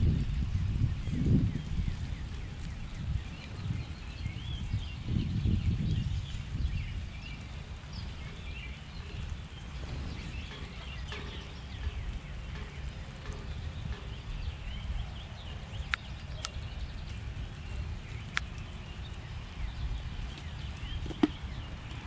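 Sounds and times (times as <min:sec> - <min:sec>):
low rumble: 0:00.0 - 0:22.0
small birds chirping: 0:00.0 - 0:22.0.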